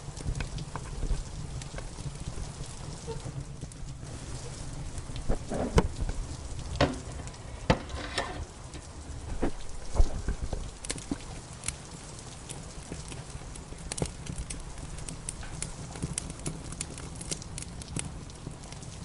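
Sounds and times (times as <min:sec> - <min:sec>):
fire popping: 0:00.0 - 0:19.0
steady rain: 0:00.0 - 0:19.0
wood fire crackling: 0:00.0 - 0:19.0.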